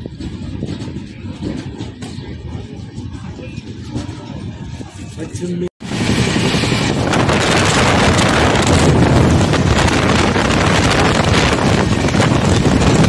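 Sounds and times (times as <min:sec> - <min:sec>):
train coach rumbling on track: 0:00.0 - 0:13.0
wind rushing over microphone: 0:00.0 - 0:13.0.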